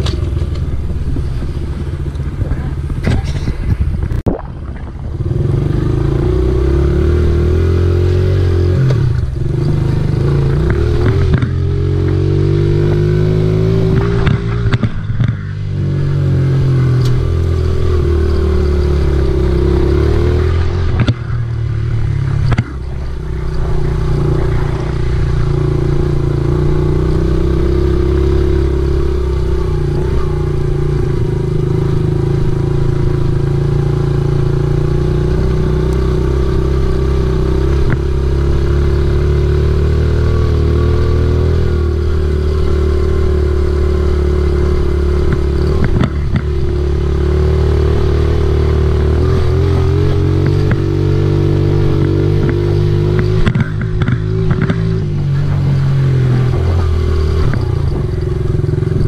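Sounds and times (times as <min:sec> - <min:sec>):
dirt bike engine revving: 0:05.2 - 0:59.0.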